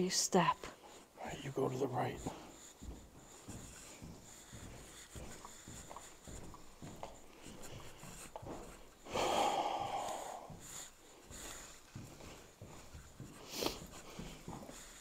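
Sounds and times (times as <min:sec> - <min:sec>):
footsteps walking: 0:00.8 - 0:15.0.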